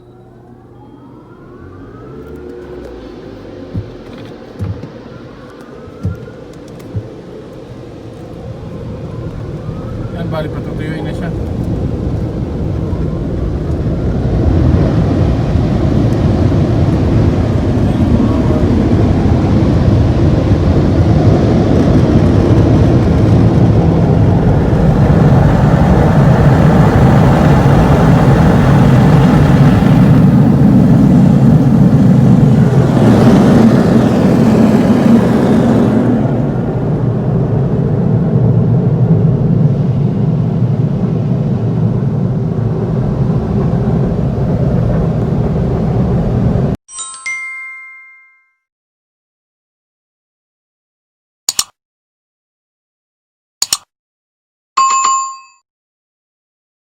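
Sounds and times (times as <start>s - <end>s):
car wash dryer blowers: 0.0s - 46.8s.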